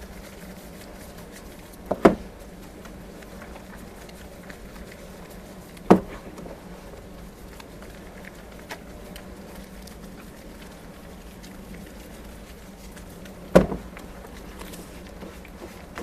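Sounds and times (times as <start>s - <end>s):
soap lathering wet squishing: 0.0s - 16.0s.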